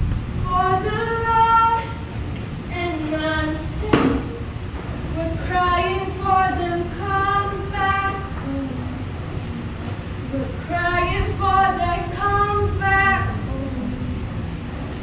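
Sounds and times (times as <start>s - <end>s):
woman singing unaccompanied: 0.4s - 4.5s, 5.1s - 9.2s, 10.2s - 14.4s.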